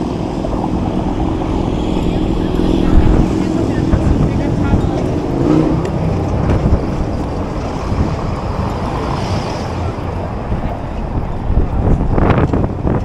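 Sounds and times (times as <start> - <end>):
traffic rumble: 0.0 - 13.0
wind buffeting microphone: 0.0 - 13.0.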